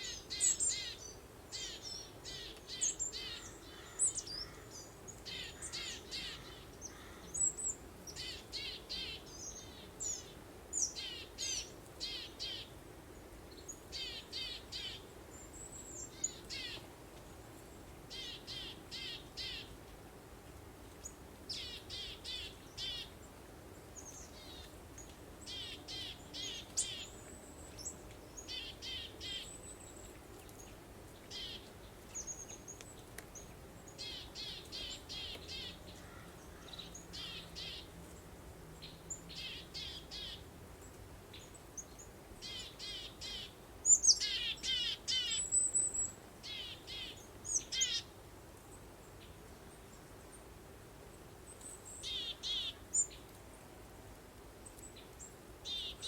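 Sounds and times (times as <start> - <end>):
songbirds chirping: 0.0 - 20.1, 20.8 - 53.8.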